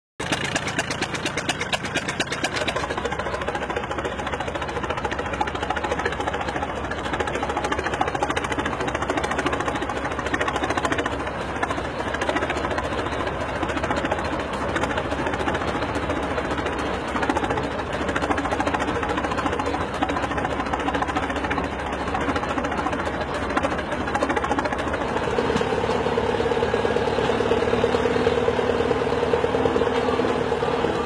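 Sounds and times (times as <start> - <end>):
tractor engines knocking: 0.2 - 31.0.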